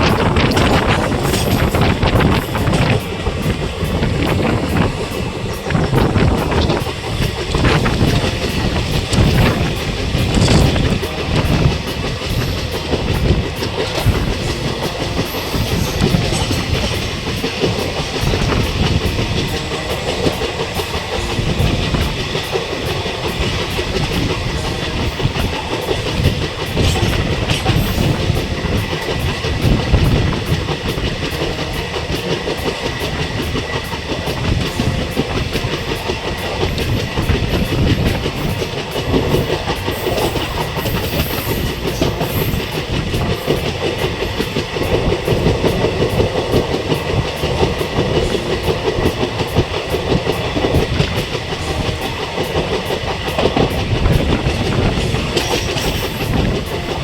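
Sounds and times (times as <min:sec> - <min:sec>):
train wheel rumble: 0:00.0 - 0:57.0
wheels clacking over rail joints: 0:00.0 - 0:57.0.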